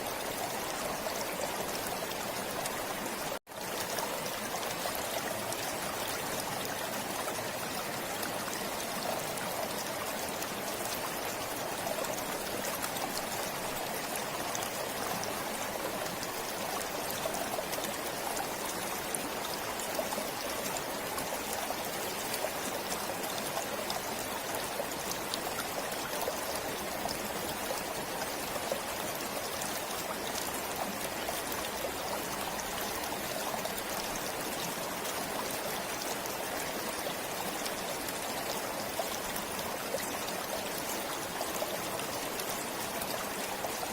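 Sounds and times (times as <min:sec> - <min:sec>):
stream flowing and trickling: 0:00.0 - 0:43.9.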